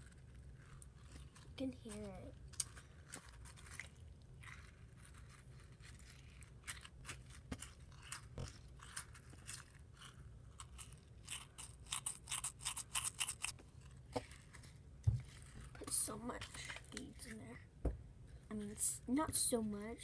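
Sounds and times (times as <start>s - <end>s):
beaded slime crunching: 0.0s - 17.6s.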